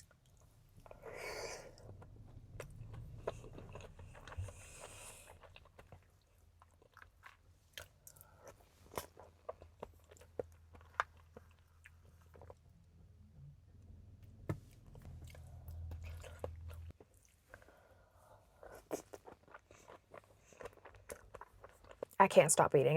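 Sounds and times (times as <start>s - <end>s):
wet chewing and mouth clicks: 0.0s - 13.0s, 14.6s - 22.2s.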